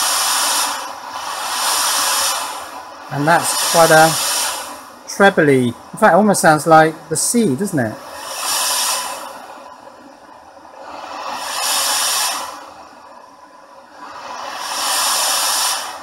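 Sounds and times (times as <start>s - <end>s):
white noise through small speaker: 0.0s - 16.0s.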